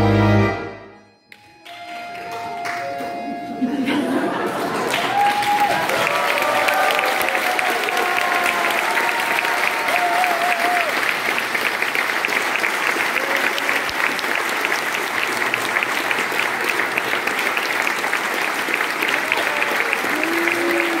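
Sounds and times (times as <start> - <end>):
audience applauding: 1.3 - 21.0.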